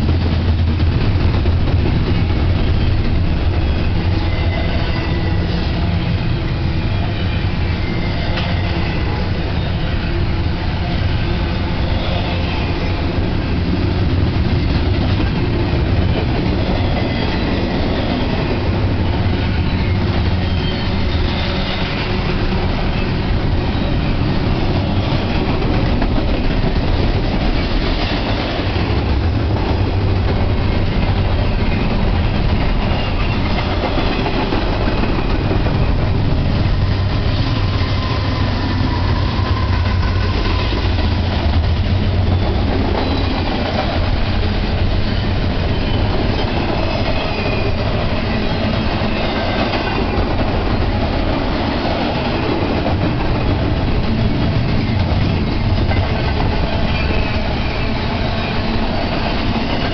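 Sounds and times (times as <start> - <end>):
diesel locomotive engine: 0.0 - 59.9
train wheels rumbling on rails: 0.0 - 59.9.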